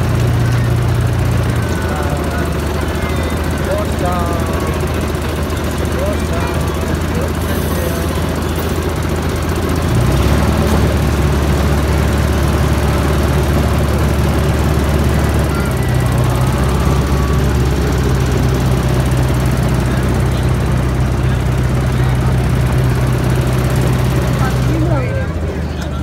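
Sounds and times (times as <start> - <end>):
miniature train engine running: 0.0 - 26.0.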